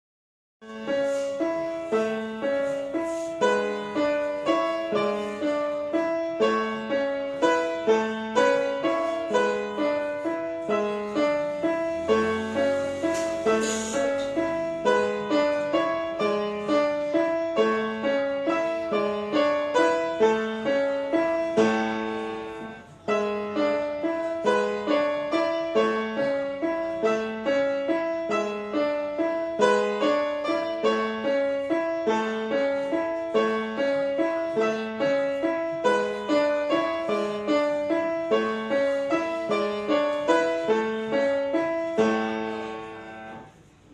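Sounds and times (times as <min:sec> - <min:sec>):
solo grand piano: 0:00.6 - 0:43.9.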